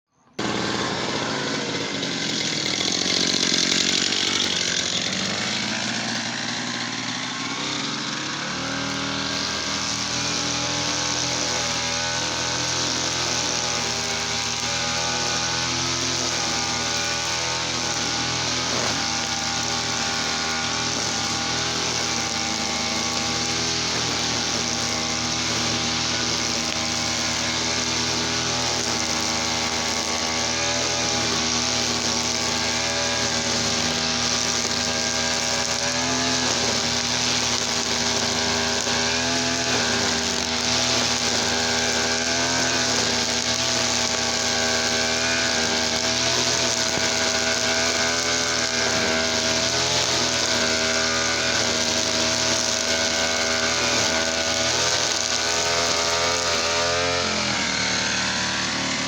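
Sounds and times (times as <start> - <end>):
brush cutter engine running: 0.2 - 59.0.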